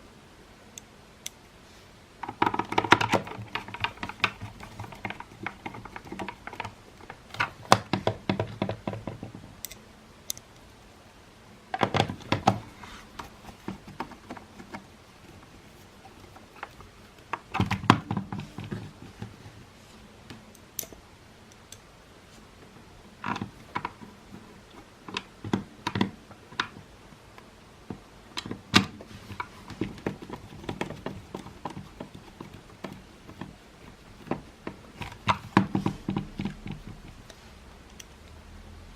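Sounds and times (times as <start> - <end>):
plastic parts clicking and tapping: 2.2 - 10.7, 11.7 - 19.5, 23.2 - 38.2.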